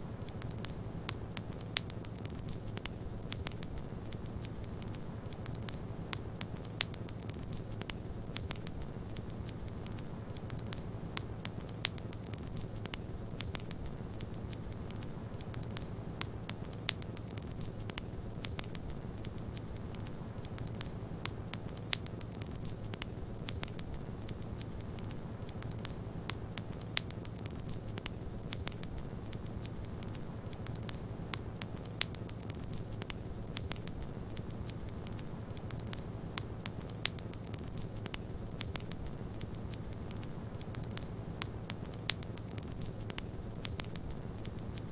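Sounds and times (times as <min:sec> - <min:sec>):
wood fire crackling: 0:00.0 - 0:44.9
fire pops: 0:00.2 - 0:44.9.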